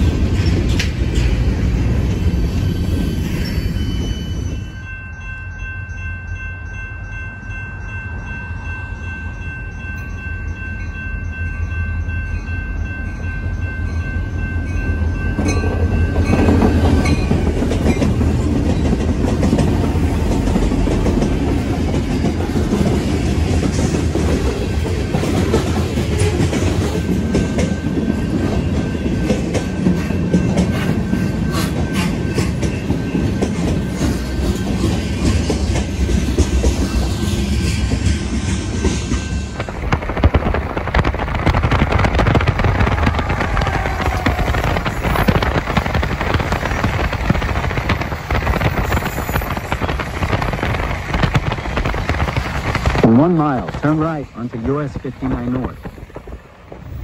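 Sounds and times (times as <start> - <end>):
diesel locomotives passing: 0.0 - 57.0.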